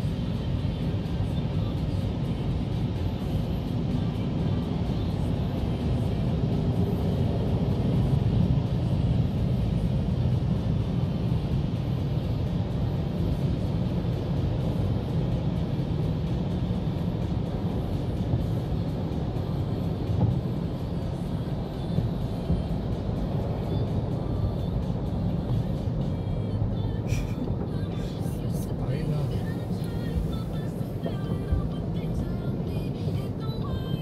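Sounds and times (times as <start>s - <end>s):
car wash machinery rumble: 0.0s - 33.4s.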